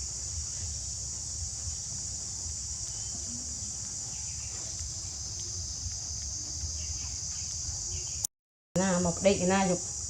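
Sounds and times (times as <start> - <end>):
insect chorus trilling: 0.0 - 10.0.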